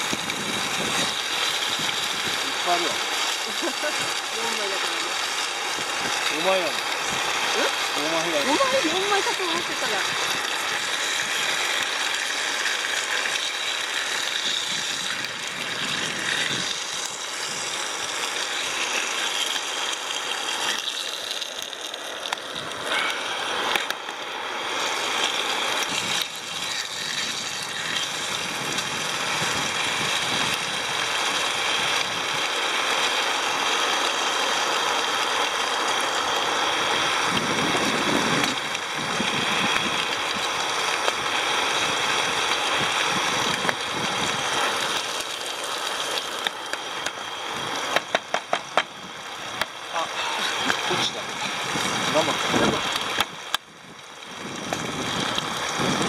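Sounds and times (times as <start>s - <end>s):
gas burner hissing: 0.0s - 56.0s
ham sizzling in a pan: 0.0s - 56.0s.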